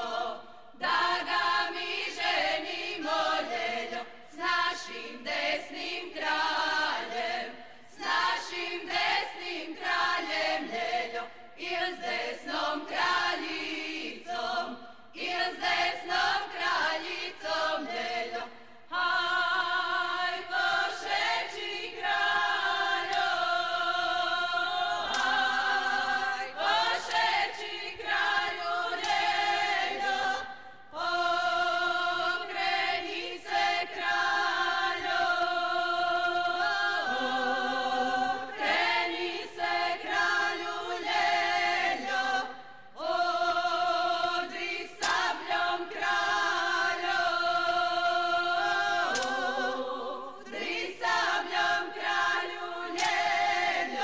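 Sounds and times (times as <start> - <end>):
women singing a cappella: 0.0 - 54.0.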